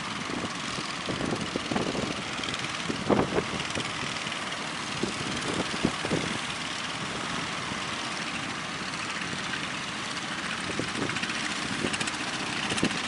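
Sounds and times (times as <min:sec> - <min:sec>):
boat engine running: 0:00.0 - 0:13.0
wind: 0:00.0 - 0:13.0.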